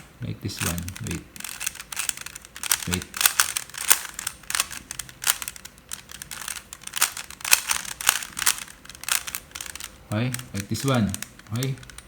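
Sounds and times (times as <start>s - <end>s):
puzzle cube clicking as turned: 0.6s - 12.0s.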